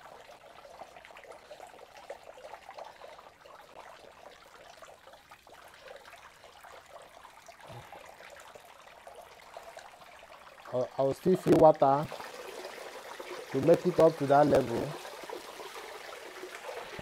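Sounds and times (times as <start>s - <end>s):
water trickling and splashing into tank: 0.0s - 17.0s.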